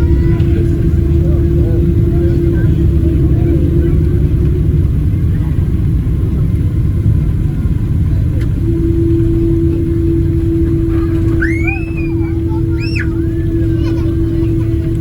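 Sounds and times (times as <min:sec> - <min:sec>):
aircraft cabin rumble: 0:00.0 - 0:15.0
steady hum: 0:00.0 - 0:15.0.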